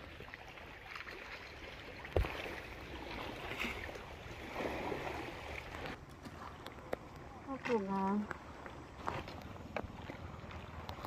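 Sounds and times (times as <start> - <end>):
sea water lapping at shore: 0.0 - 11.0.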